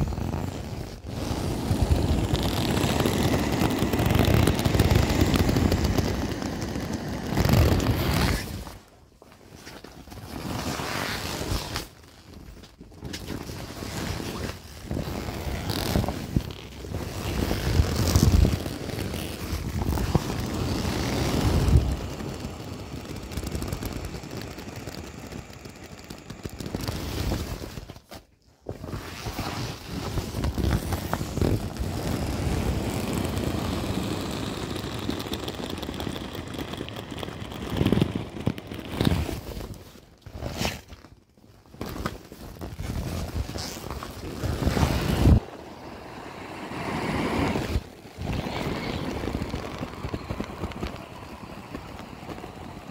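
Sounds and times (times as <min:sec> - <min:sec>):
vinyl rubbing and crinkling: 0:00.0 - 0:52.9.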